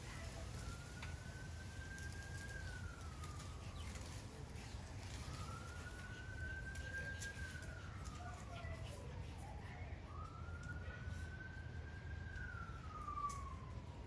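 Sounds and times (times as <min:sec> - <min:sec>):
siren wailing: 0:00.1 - 0:14.0.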